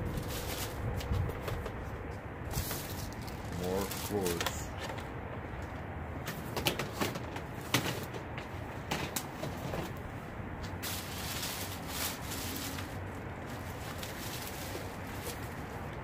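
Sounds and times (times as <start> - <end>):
rustling of bag and cords: 0.0 - 16.0.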